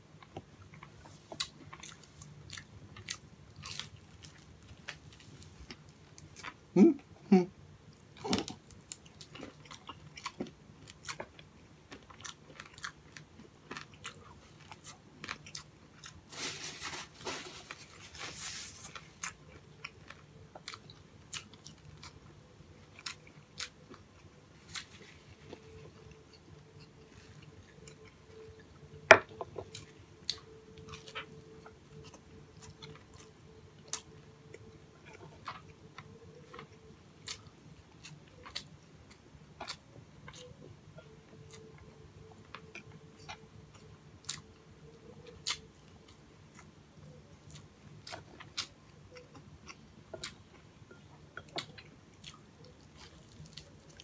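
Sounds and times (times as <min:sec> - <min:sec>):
person chewing crunchy food: 0:00.2 - 0:06.8, 0:07.9 - 0:54.0.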